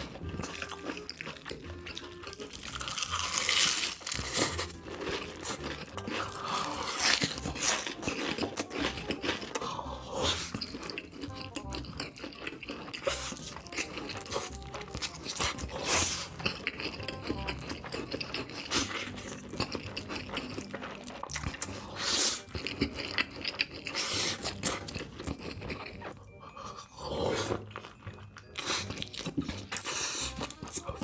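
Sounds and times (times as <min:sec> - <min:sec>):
loud crunching bites: 0:00.0 - 0:26.0
chewing: 0:00.0 - 0:31.0.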